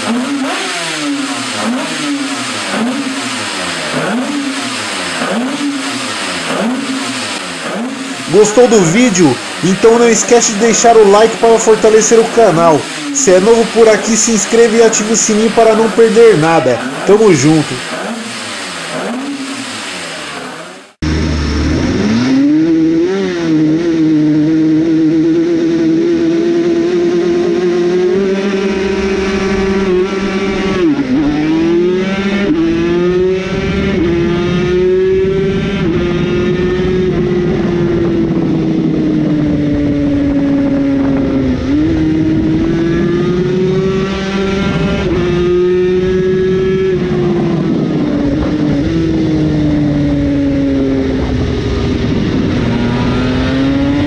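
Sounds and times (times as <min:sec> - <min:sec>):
two-stroke race engine revving: 0:00.0 - 0:54.0.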